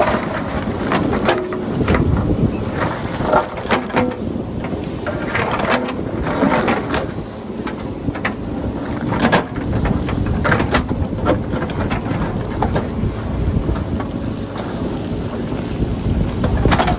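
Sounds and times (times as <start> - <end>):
diesel engine under load: 0.0 - 16.9
wind buffeting microphone: 0.0 - 16.9.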